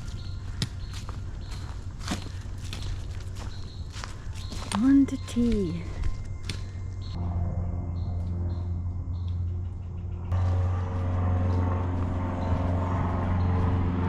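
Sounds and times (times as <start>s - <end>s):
propeller aircraft engine drone: 0.0s - 4.4s, 5.9s - 14.0s.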